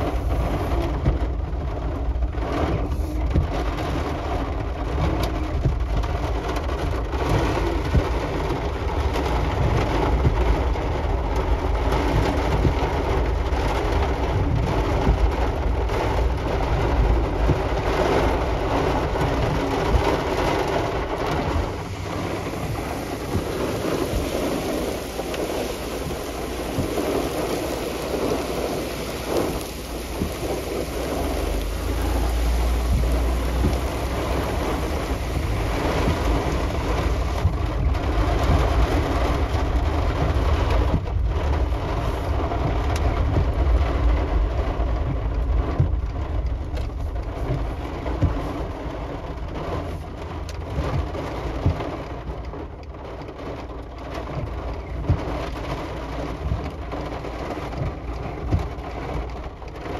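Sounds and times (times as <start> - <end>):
heavy rain: 0.0 - 59.9
raindrops tapping a surface: 0.0 - 59.9.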